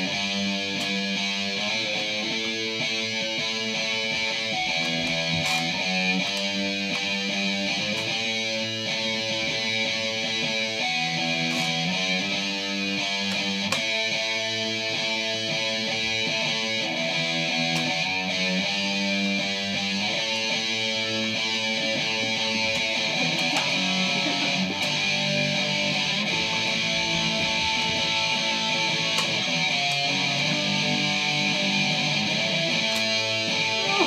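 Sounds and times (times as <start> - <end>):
electric guitar sustained chords: 0.0 - 34.0.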